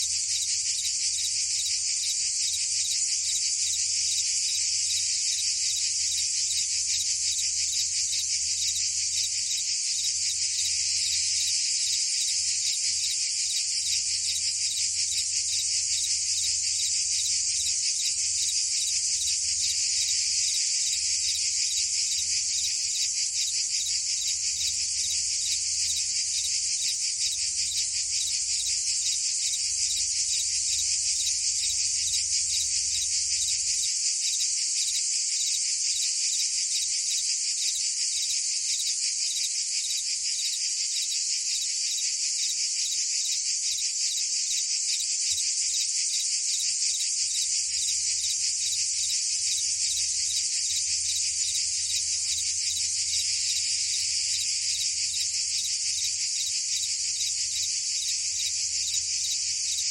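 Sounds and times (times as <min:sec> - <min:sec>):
cicadas and crickets trilling: 0:00.0 - 0:59.9.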